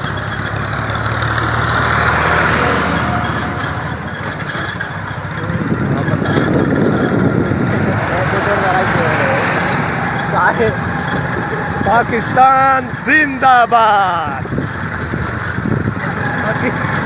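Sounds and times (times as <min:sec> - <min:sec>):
dense rushing noise: 0:00.0 - 0:17.0
vehicle engine running: 0:00.0 - 0:17.0.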